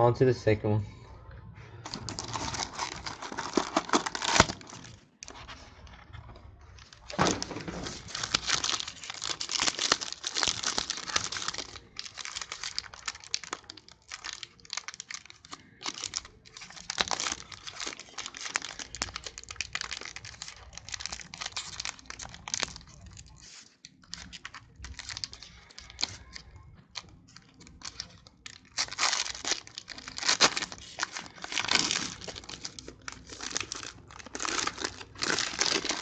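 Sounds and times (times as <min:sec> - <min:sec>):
foil wrapper crinkling and tearing: 0:01.8 - 0:05.5, 0:06.8 - 0:36.0.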